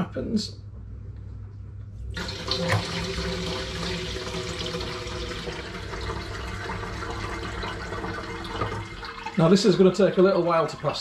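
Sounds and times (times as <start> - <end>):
liquid gurgling: 2.1 - 11.0
liquid pouring and splashing: 2.1 - 11.0.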